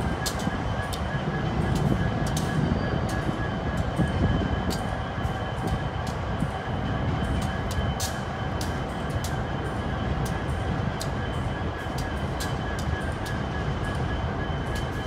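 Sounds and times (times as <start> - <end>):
train clicks and clanks: 0.0 - 15.0
train wheels rumbling on rail: 0.0 - 15.0.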